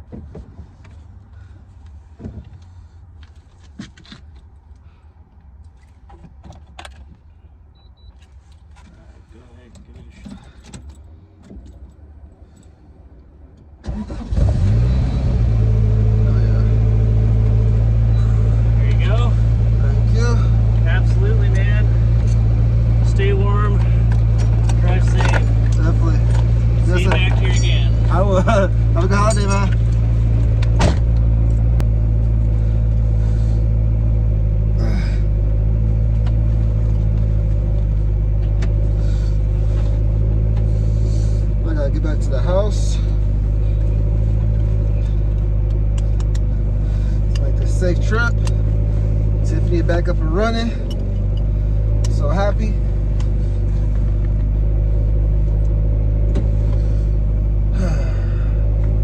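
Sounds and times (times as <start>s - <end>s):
car engine starting and idling: 5.6s - 59.0s.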